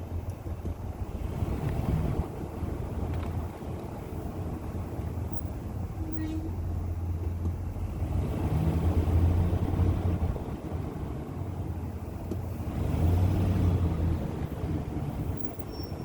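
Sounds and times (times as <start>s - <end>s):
brake howl: 0.0s - 16.0s
road noise: 0.0s - 16.0s.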